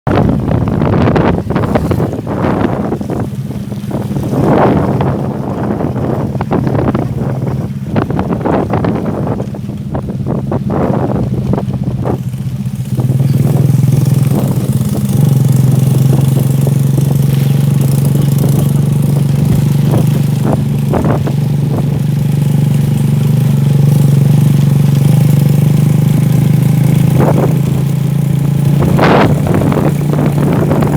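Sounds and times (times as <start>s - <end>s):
motorcycle engine running: 0.1s - 30.9s.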